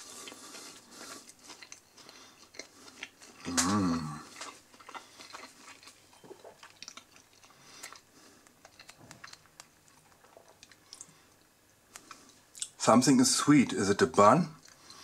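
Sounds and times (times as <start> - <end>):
person chewing food: 0.0 - 12.8, 14.6 - 15.0.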